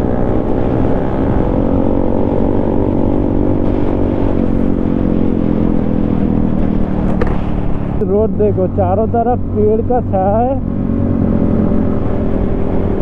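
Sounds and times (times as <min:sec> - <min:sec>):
motorcycle engine cruising: 0:00.0 - 0:13.0
wind rumble on microphone: 0:00.0 - 0:13.0.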